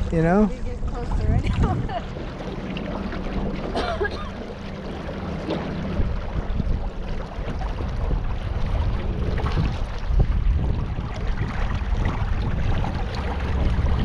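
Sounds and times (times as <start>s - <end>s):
boat engine hum: 0.0s - 14.0s
wind rumbling on microphone: 0.0s - 14.0s.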